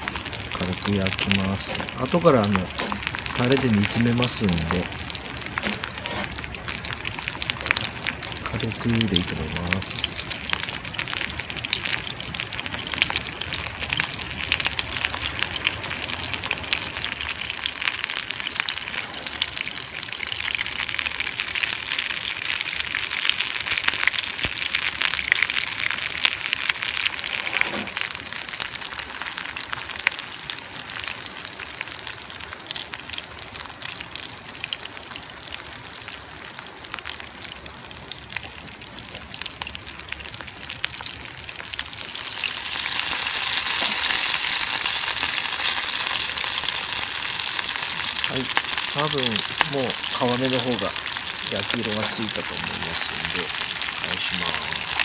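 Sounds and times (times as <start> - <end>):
fish sizzling on grill: 0.0 - 55.0.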